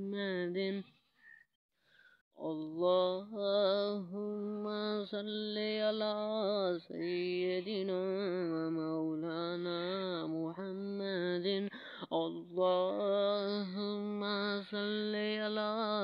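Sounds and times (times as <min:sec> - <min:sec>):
person chanting: 0:02.4 - 0:16.0.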